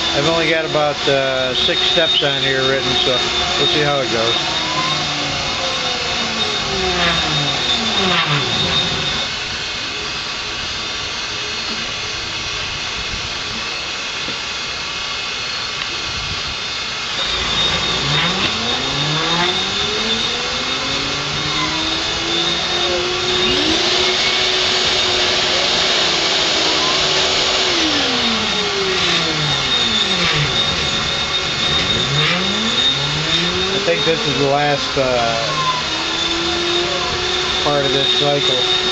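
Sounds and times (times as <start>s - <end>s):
end mill cutting aluminium: 0.0s - 10.2s, 16.6s - 38.9s
stepper motors whining: 0.0s - 14.4s, 15.2s - 38.9s
mill spindle running: 0.0s - 38.9s.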